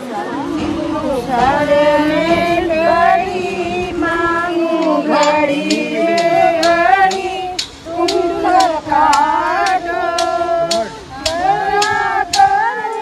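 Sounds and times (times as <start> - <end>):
women singing devotional song: 0.0 - 13.0.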